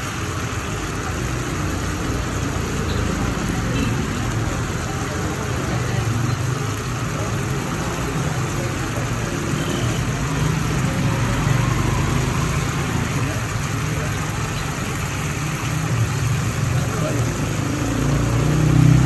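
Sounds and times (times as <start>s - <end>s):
oil sizzling on a griddle: 0.0s - 19.0s.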